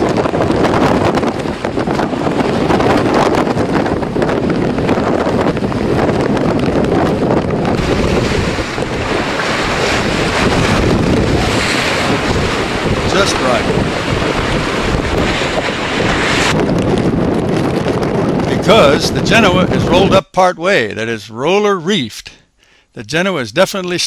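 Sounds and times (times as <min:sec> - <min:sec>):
wind buffeting microphone: 0:00.0 - 0:20.9
water rushing past hulls: 0:00.0 - 0:21.6.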